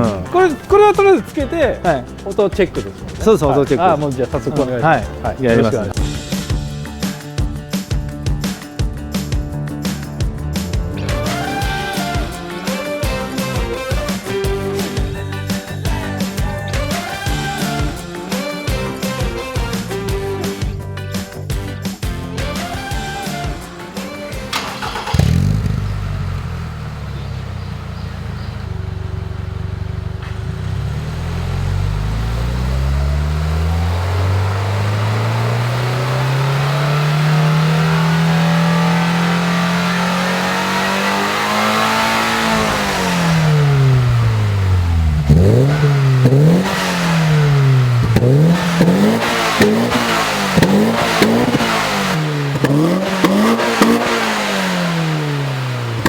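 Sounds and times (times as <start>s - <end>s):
car engine revving: 0.0s - 20.6s, 22.4s - 56.0s.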